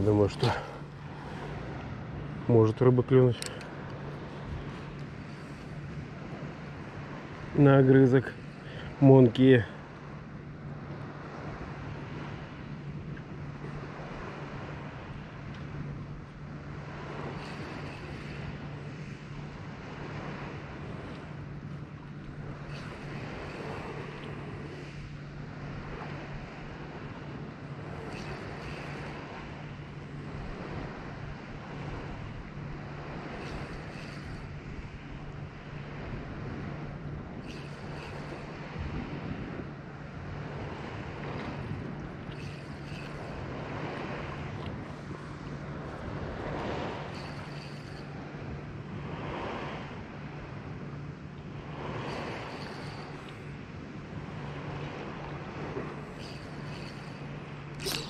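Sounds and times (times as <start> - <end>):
sea surf washing on shore: 0.0 - 58.0
steady low hum: 0.0 - 58.0
wind on microphone: 8.2 - 58.0.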